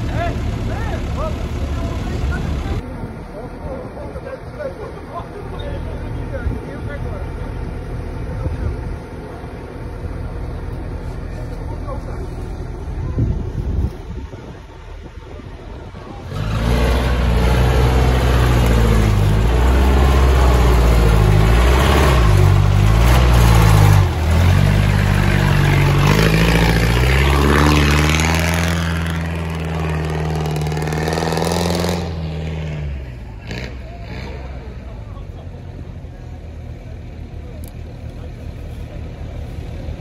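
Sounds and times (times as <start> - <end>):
off-road engine revving: 3.5 - 40.0.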